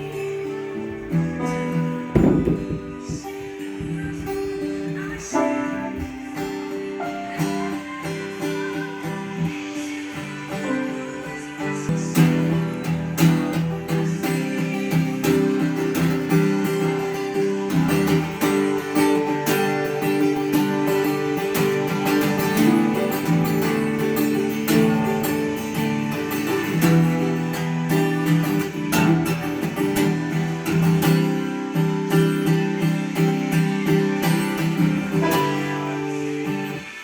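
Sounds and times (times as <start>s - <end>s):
acoustic guitar music: 0.0s - 37.0s.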